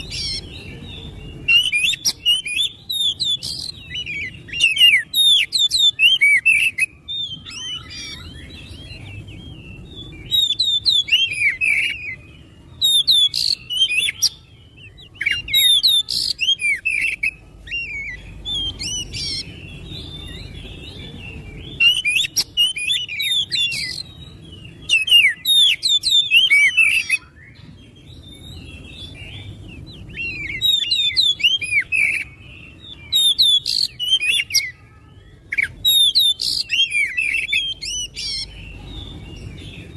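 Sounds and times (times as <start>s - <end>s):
bird song with whistled phrases: 0.0s - 39.9s.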